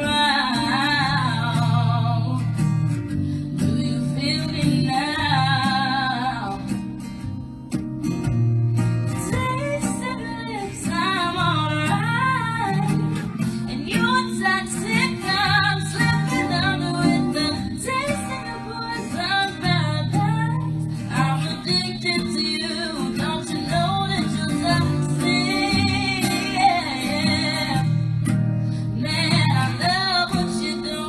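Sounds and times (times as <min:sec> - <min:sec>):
woman singing into a microphone: 0:00.0 - 0:07.5, 0:09.0 - 0:31.0
guitar: 0:00.0 - 0:31.0.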